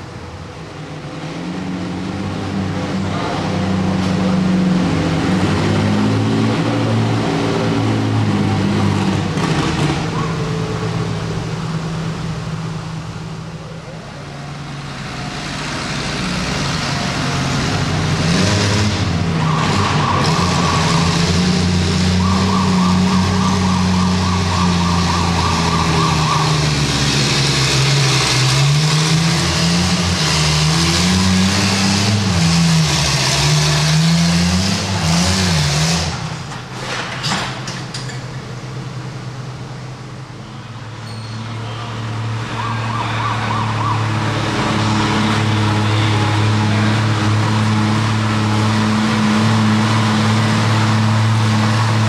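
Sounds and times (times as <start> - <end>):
tractor engine at full throttle: 0.0 - 52.0.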